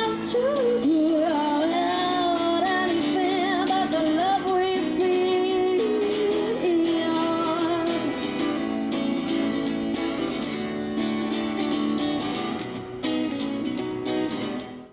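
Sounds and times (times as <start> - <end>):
person singing: 0.0 - 12.8.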